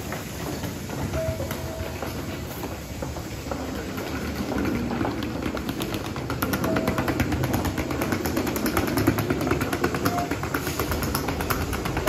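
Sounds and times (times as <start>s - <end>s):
footsteps of many people: 0.0s - 12.0s.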